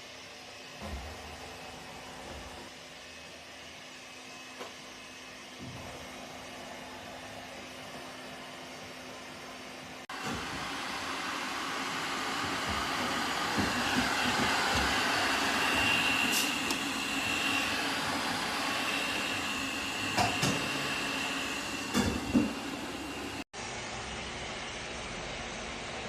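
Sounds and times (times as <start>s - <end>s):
robot vacuum cleaner running: 0.0s - 26.0s.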